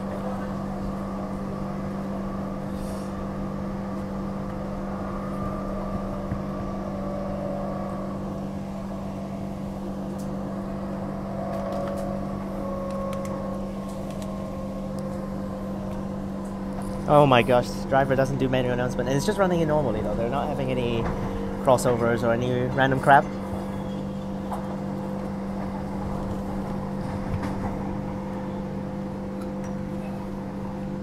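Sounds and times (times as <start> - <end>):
electric train hum: 0.0 - 31.0
train rumble: 0.0 - 31.0.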